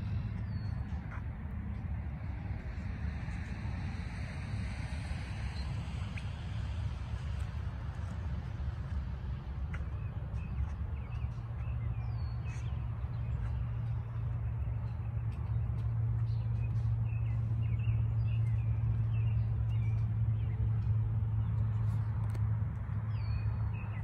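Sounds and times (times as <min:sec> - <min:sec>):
small birds chirping: 0:00.0 - 0:01.8, 0:05.4 - 0:24.0
low rumble: 0:00.0 - 0:24.0.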